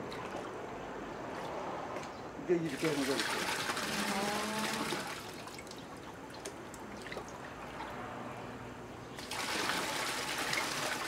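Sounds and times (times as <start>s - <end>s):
clay slurry trickling and dripping: 0.0s - 8.3s, 9.1s - 11.0s.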